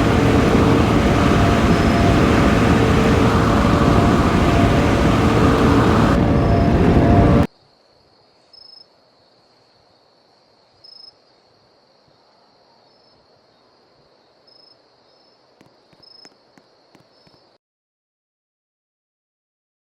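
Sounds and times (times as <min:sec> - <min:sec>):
crickets chirping: 0:00.0 - 0:17.6.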